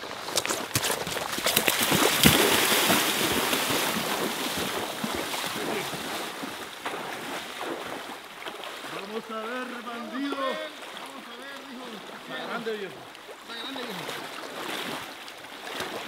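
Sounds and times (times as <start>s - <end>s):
rushing river water: 0.0s - 16.0s.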